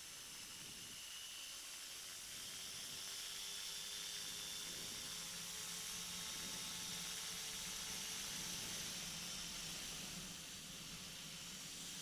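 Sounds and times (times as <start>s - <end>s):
faint microlight engine hum: 0.0s - 12.0s.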